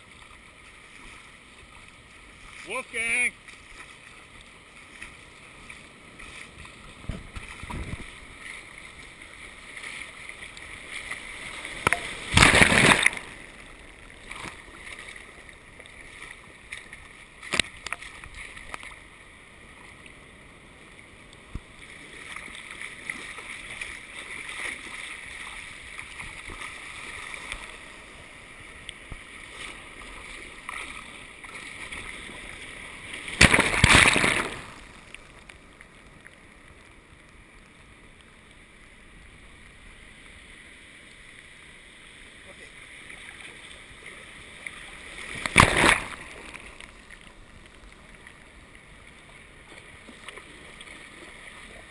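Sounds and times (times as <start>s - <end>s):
shallow surf washing and fizzing: 0.0s - 51.9s.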